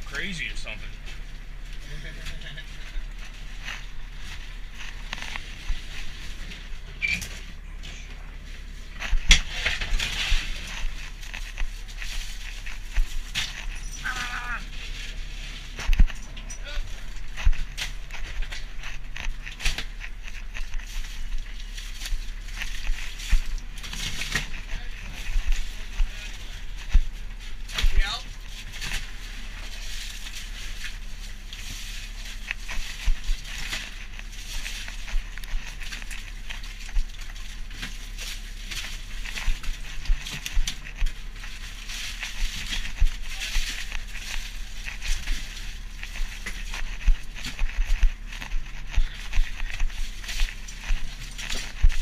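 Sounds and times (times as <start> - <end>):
low machinery drone: 0.0 - 52.0
low steady hum: 0.0 - 52.0
ice and fish clattering: 8.9 - 52.0.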